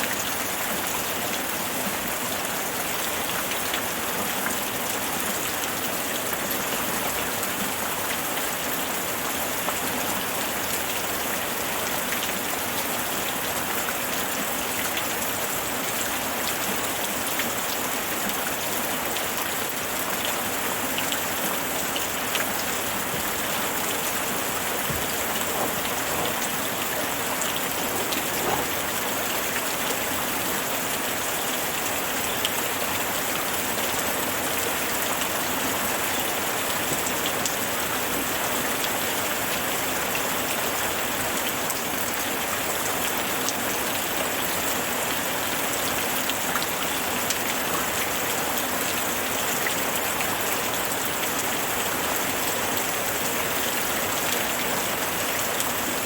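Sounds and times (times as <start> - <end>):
steady rain: 0.0 - 56.0
raindrops pattering on surfaces: 0.1 - 56.0.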